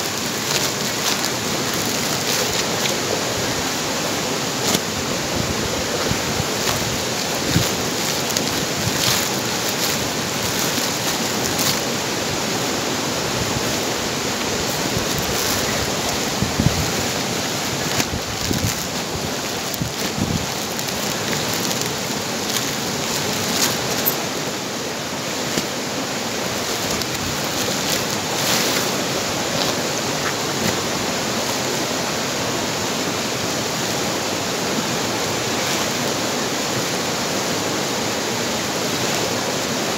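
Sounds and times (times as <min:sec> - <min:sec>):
plastic sacks rustling: 0:00.0 - 0:32.5, 0:34.2 - 0:36.7
stream running over rocks: 0:00.0 - 0:39.9.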